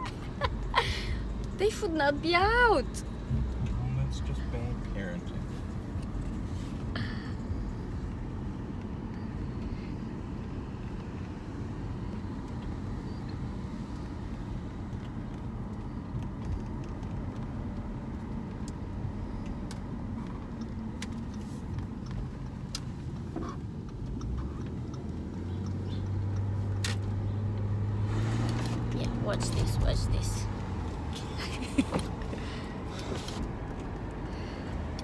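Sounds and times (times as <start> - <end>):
engine and tyre rumble: 0.0 - 35.0
faint irregular clicks: 0.1 - 3.9, 4.8 - 27.8, 31.6 - 35.0.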